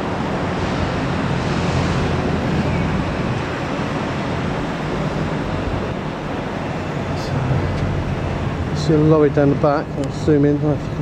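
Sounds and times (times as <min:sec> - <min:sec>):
city roar: 0:00.0 - 0:11.0.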